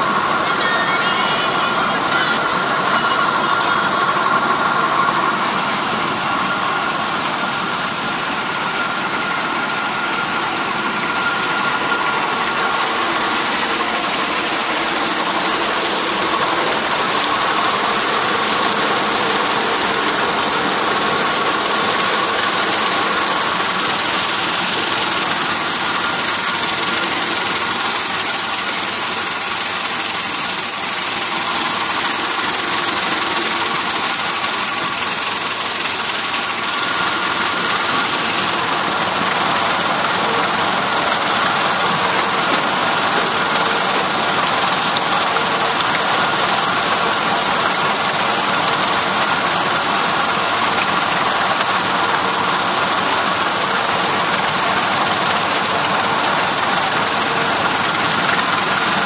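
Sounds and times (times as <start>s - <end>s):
machinery mechanical din: 0.0s - 59.0s.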